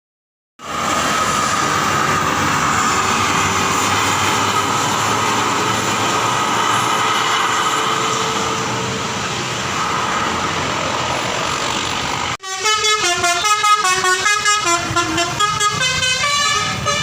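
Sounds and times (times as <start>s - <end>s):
heavy road traffic rumble: 0.6s - 17.0s.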